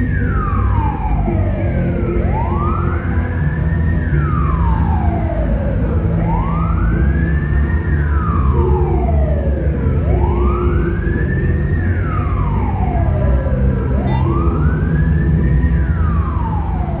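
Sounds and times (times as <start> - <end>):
ambulance wail siren: 0.0 - 17.0
engine and road rumble: 0.0 - 17.0.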